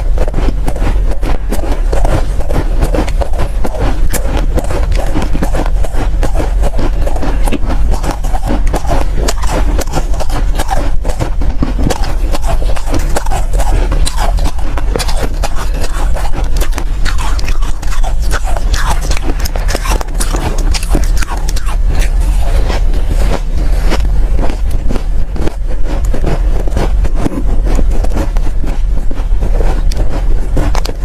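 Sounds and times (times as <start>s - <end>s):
chewing crunchy ice: 0.0s - 31.0s
low hum: 0.0s - 31.0s.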